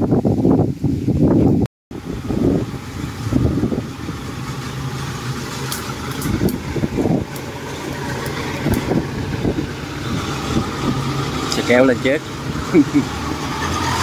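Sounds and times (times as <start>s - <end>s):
diesel engine running: 1.9s - 14.0s.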